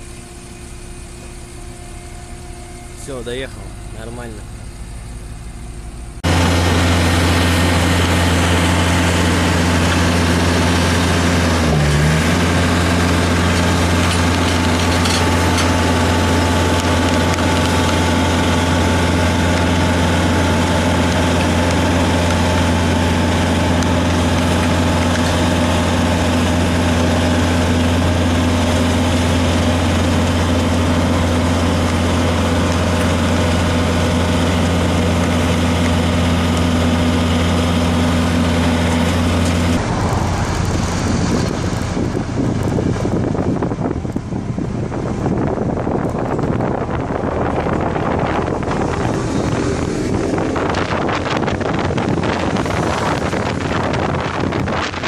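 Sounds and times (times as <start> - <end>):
heavy diesel engine humming: 0.0 - 55.0.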